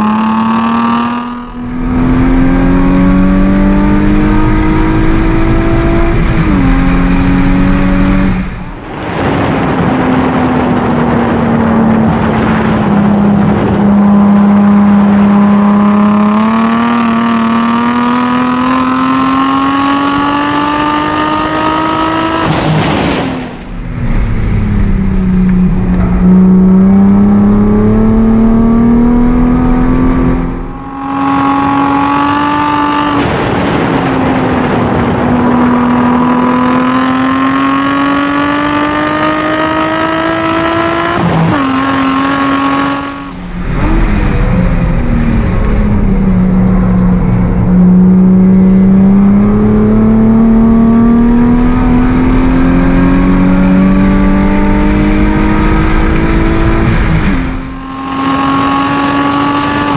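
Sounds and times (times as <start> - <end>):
car engine revving on track: 0.0 - 59.9.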